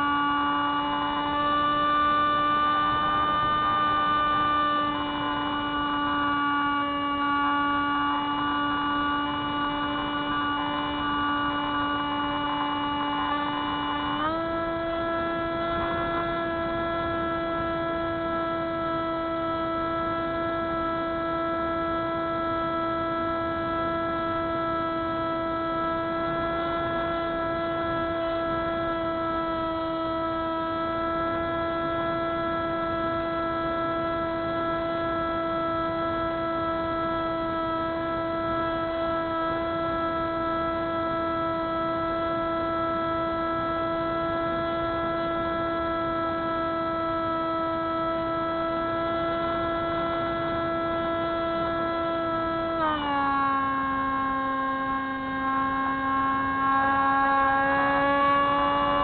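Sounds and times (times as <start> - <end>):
model plane motor and propeller droning: 0.0 - 59.0.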